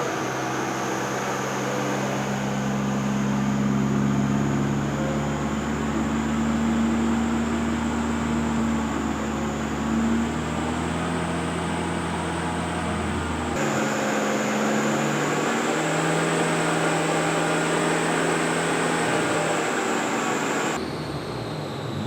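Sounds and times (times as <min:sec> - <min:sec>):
car engine droning on dyno: 0:00.0 - 0:22.0.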